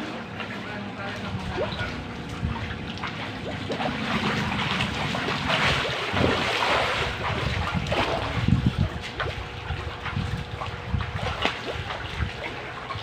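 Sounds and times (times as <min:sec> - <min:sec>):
pool water sloshing: 0:00.0 - 0:13.0
small splashes: 0:00.0 - 0:13.0.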